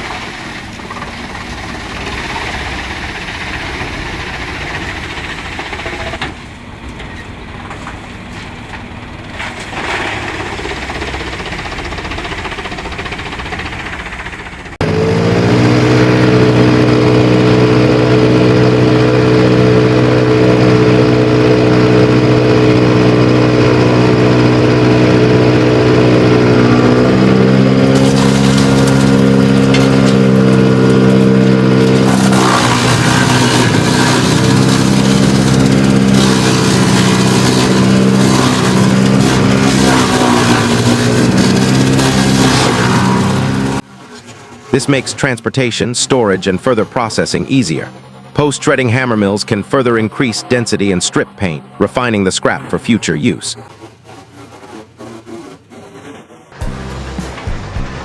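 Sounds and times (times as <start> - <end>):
loud engine drone: 0.0 - 54.5, 56.5 - 58.0
heavy machinery running: 0.0 - 58.0.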